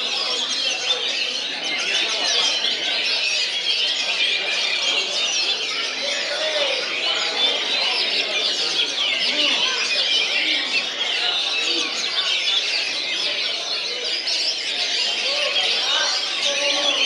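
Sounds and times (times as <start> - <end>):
caged songbirds singing: 0.0 - 17.0.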